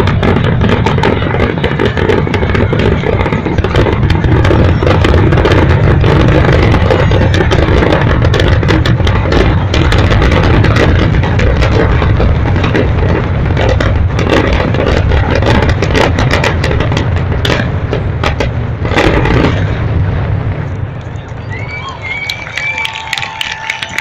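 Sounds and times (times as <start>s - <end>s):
low rumble: 0.0s - 23.7s
fireworks bangs and crackles: 0.0s - 24.0s.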